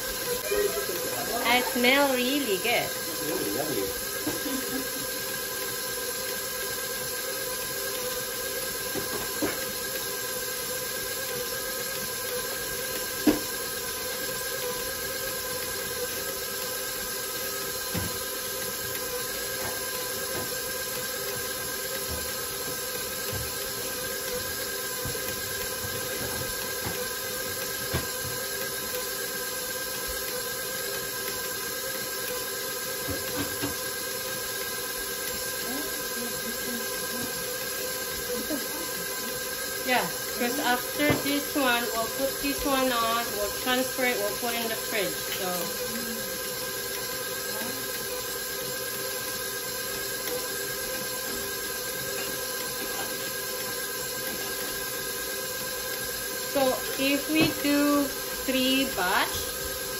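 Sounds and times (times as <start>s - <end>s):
stand mixer motor hum: 0.0s - 59.9s.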